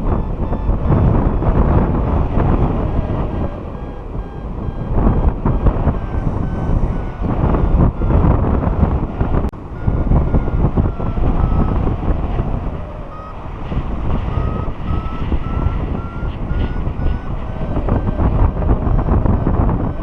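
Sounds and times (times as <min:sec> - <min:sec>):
variometer short beeps: 0:00.0 - 0:12.4, 0:13.0 - 0:20.0
wind rushing on microphone: 0:00.0 - 0:20.0.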